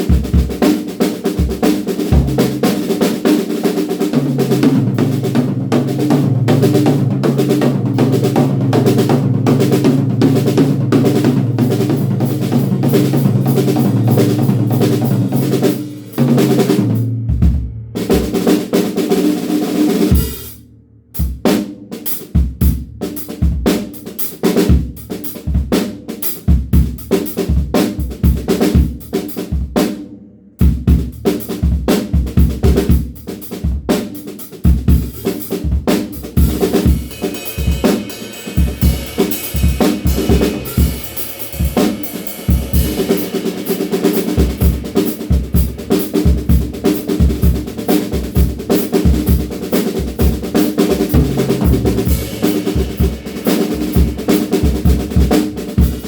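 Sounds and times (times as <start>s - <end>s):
drum kit played hard: 0.0s - 56.0s.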